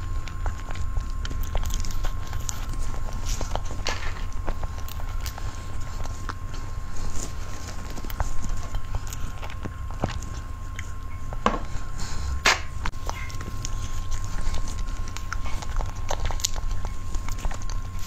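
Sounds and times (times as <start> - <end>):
chewing and mouth sounds: 0.0 - 18.0
steady low hum: 0.0 - 18.0.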